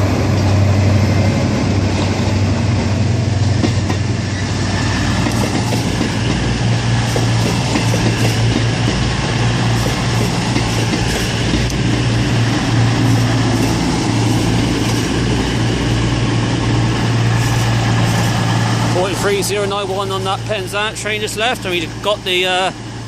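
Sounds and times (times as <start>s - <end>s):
diesel train engines humming: 0.0s - 23.0s.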